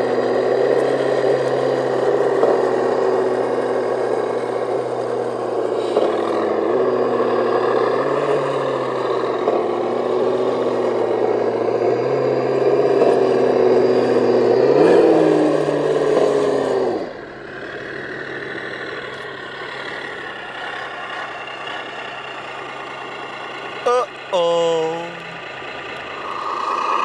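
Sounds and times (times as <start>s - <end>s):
radio-controlled trucks droning: 0.0s - 27.0s.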